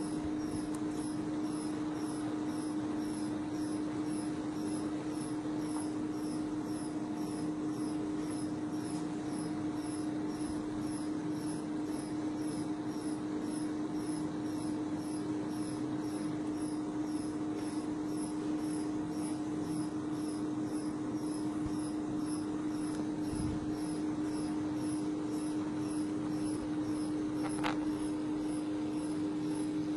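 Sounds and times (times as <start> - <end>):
testing machine humming: 0.0 - 29.9.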